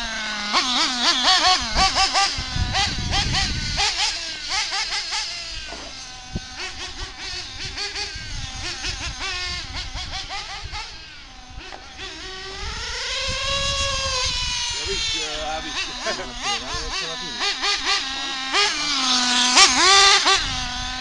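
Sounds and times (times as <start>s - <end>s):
small nitro engines revving: 0.0s - 21.0s.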